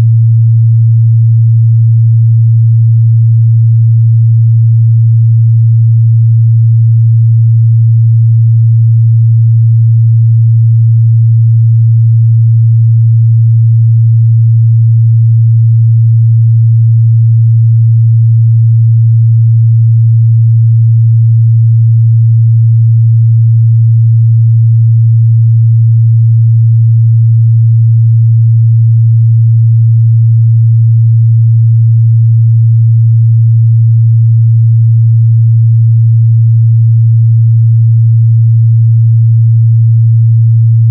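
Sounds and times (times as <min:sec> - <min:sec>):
low sine tone: 0:00.0 - 0:40.9.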